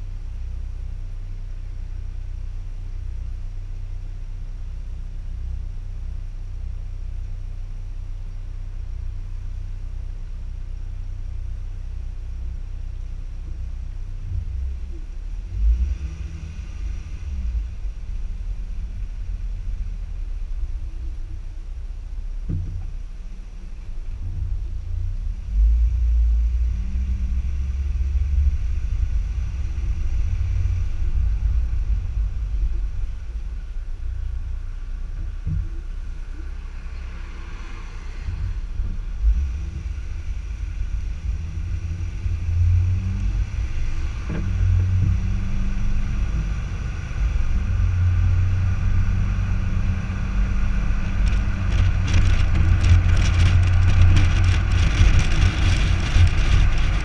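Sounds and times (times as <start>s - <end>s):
road and wind rumble: 0.0s - 57.0s.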